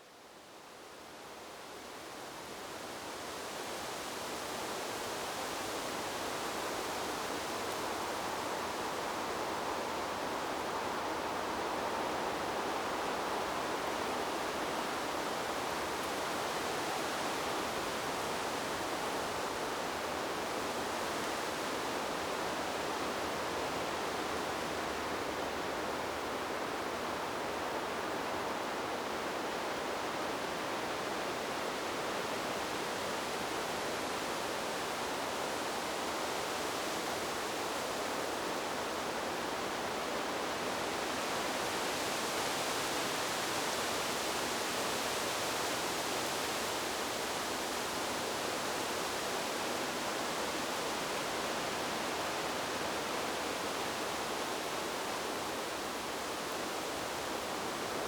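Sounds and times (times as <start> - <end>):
wind in trees white noise: 0.0 - 58.0.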